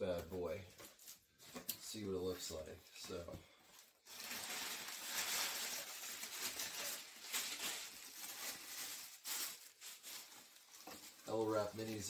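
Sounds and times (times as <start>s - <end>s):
packing material rustling: 0.8s - 12.0s.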